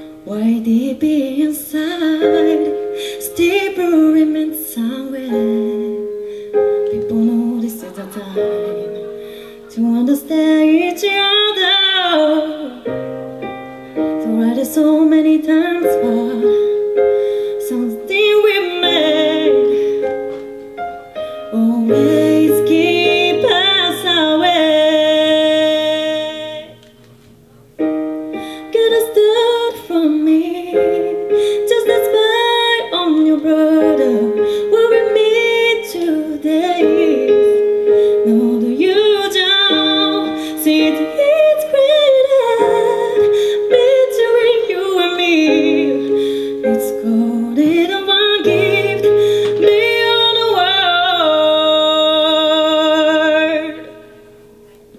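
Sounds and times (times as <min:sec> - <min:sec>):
woman singing: 0:00.0 - 0:13.2, 0:14.1 - 0:20.4, 0:21.2 - 0:26.8, 0:28.3 - 0:54.2
digital piano playing: 0:00.0 - 0:54.9.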